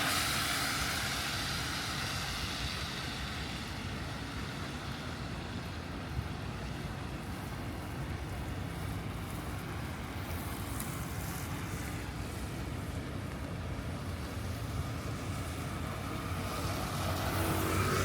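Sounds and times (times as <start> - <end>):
traffic rumble: 0.0 - 18.0
tyre noise on wet road: 0.0 - 18.0
vehicle approaching: 0.0 - 18.0.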